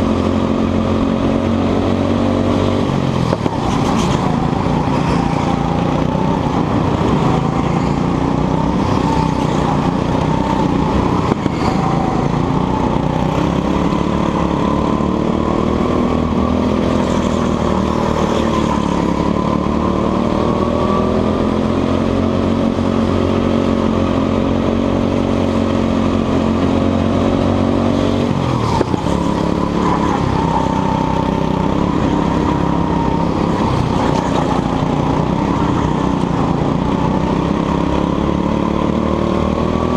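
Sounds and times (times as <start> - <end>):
go-kart engine at full throttle: 0.0 - 39.9.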